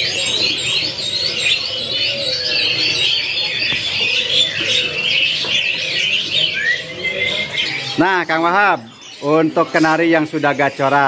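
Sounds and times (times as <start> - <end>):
canaries singing: 0.0 - 11.0.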